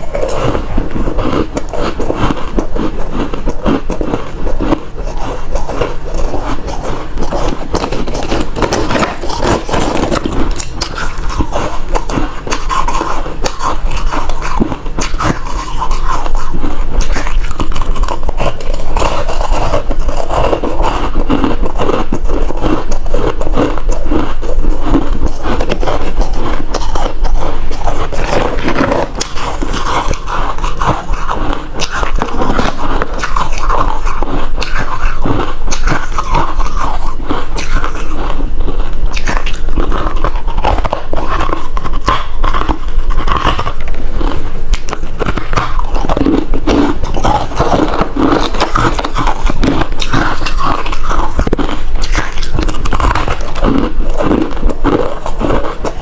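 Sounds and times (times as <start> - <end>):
crushed ice being chewed: 0.0 - 56.0.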